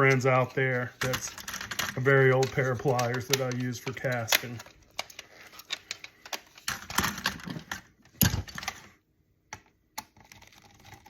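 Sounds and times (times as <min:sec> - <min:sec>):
tools and parts clattering on workbench: 0:00.0 - 0:08.9.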